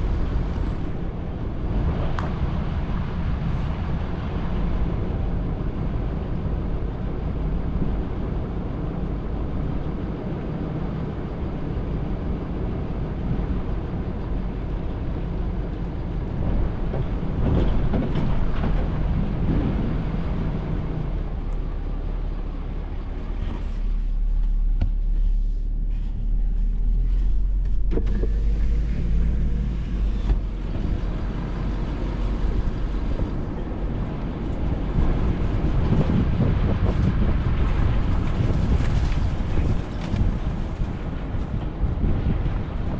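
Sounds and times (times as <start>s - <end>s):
wind buffeting microphone: 0.0s - 25.2s, 26.2s - 42.9s.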